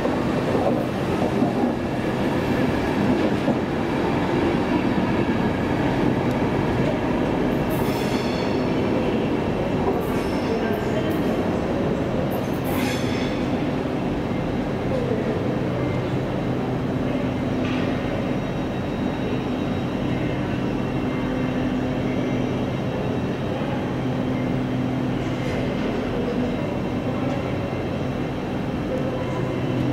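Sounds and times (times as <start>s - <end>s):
electric train hum: 0.0s - 29.9s
train wheels rumbling on track: 0.0s - 29.9s.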